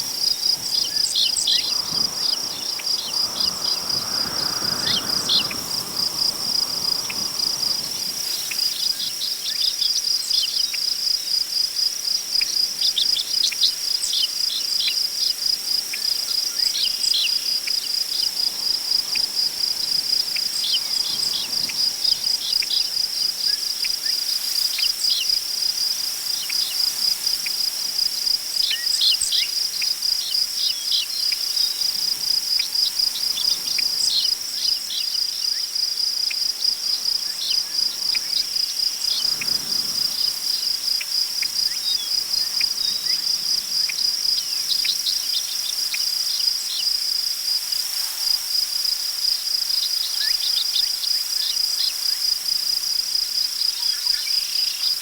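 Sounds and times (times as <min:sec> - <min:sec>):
crickets chirping: 0:00.0 - 0:55.0
wind through tall grass: 0:00.0 - 0:55.0.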